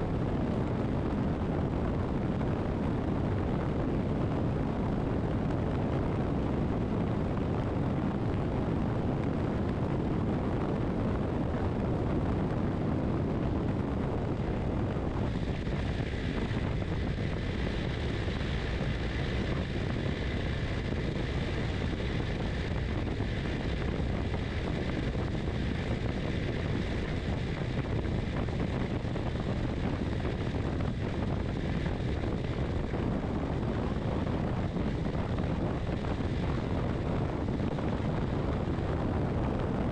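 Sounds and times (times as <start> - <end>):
motorcycle engine and road noise: 0.0 - 39.9
wind rushing over microphone: 0.0 - 39.9.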